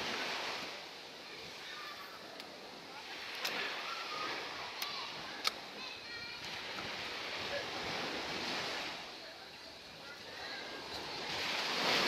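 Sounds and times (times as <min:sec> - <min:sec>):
surf washing on beach: 0:00.0 - 0:12.0
faint voices talking: 0:00.9 - 0:12.0.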